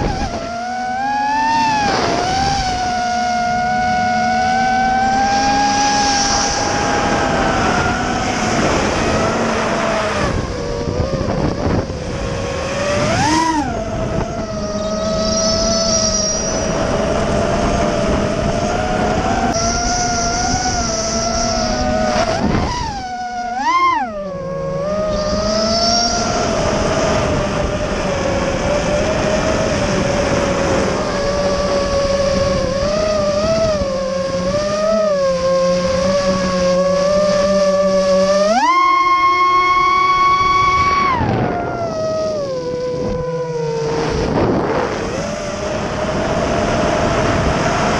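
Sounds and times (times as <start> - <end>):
quadcopter motors whining: 0.0 - 47.9.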